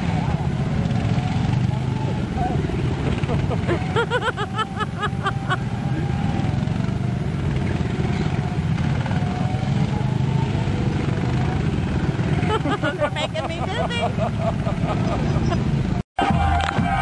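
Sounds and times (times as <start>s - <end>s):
small engines humming: 0.0s - 17.0s.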